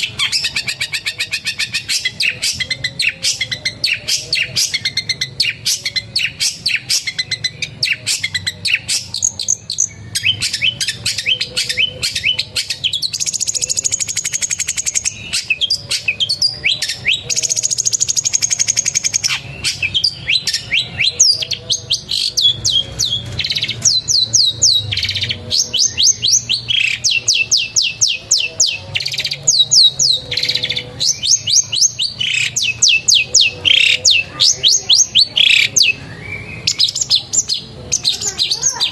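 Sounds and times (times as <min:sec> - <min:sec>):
bird singing sharp chirps: 0:00.0 - 0:38.9
high fast bird trill: 0:00.0 - 0:38.9.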